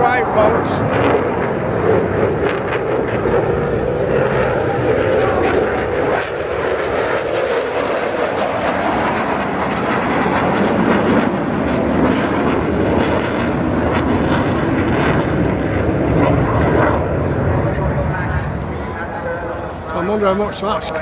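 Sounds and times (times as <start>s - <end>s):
jet fighter roaring past: 0.0s - 21.0s.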